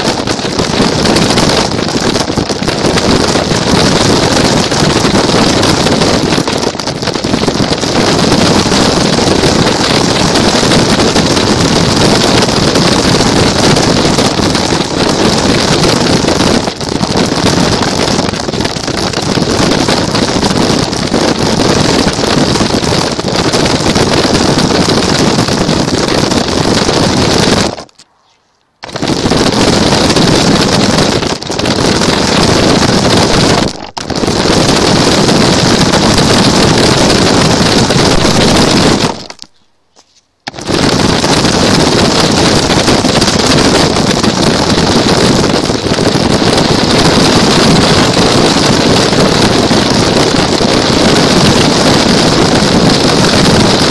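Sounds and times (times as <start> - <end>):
wind buffeting and rumble: 0.0 - 28.0, 28.8 - 39.5, 40.5 - 53.9.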